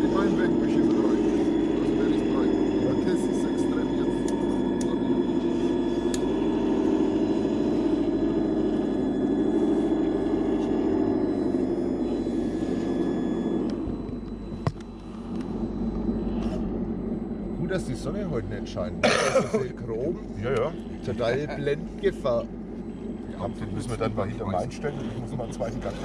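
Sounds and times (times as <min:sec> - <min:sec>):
electric motor whine and hum: 0:00.0 - 0:26.0.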